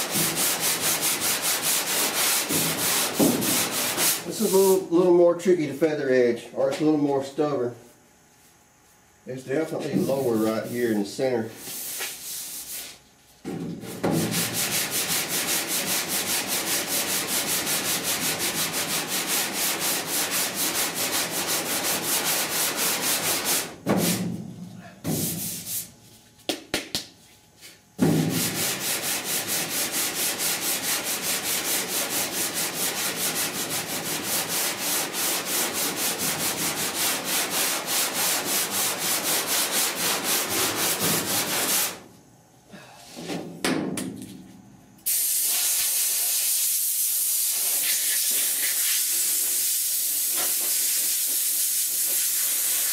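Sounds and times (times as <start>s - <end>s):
hand block sanding: 0.0s - 4.8s, 9.7s - 13.0s, 13.8s - 27.0s, 27.6s - 42.0s, 45.1s - 52.9s.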